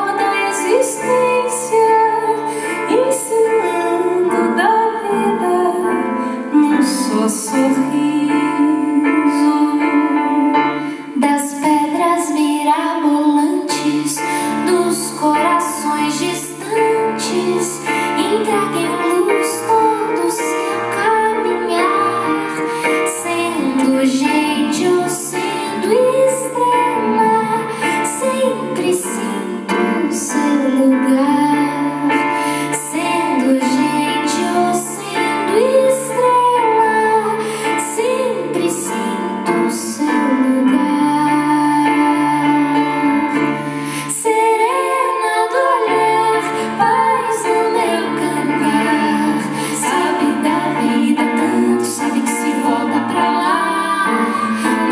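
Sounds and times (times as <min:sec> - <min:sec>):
grand piano: 0:00.0 - 0:54.9
woman singing a slow ballad: 0:00.0 - 0:54.9.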